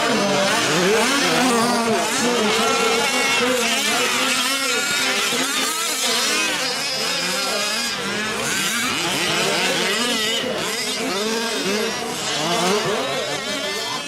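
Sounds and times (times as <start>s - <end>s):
small two-stroke engines racing: 0.0s - 14.0s.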